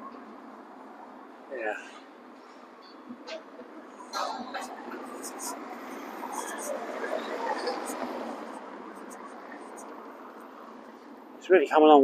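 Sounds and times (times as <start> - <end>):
outdoor street background noise: 0.0 - 12.0.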